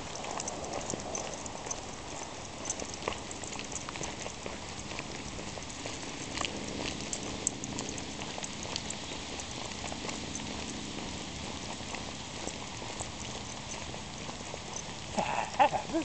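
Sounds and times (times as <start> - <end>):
dog paws clicking: 0.0 - 16.0
footsteps on concrete: 0.0 - 16.0.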